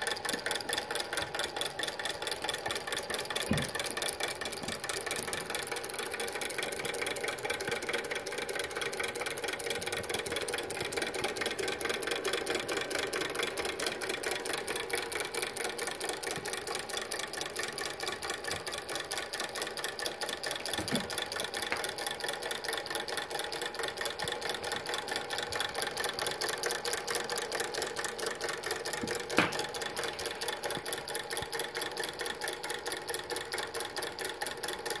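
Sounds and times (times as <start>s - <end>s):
model engine clattering: 0.0s - 35.0s.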